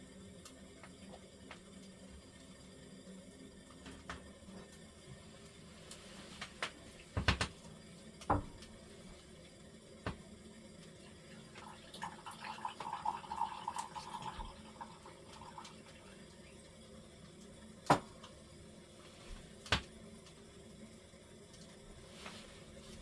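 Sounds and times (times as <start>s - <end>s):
hot water trickling: 0.0s - 23.0s.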